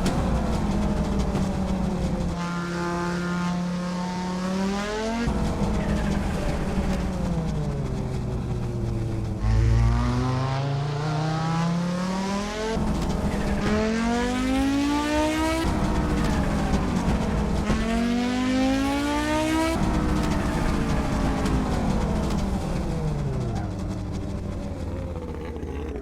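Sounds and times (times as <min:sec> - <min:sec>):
car engine accelerating through gears: 0:00.0 - 0:26.0.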